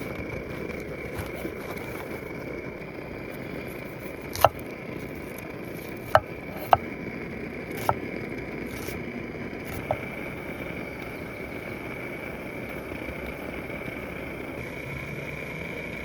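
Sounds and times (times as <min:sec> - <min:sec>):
burning wood popping: 0:00.0 - 0:14.6
wood fire burning: 0:00.0 - 0:16.0.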